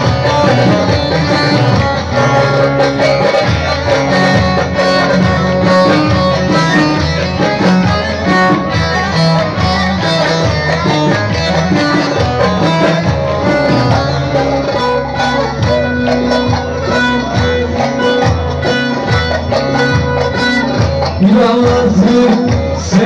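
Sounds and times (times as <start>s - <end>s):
plucked-string lead melody: 0.0s - 23.0s.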